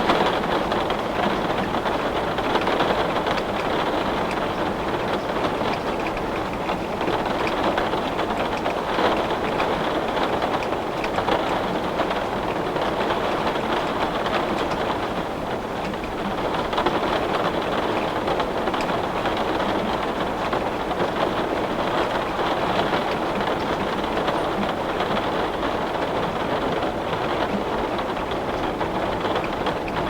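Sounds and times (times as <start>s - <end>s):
heavy rain on window glass: 0.0s - 30.0s.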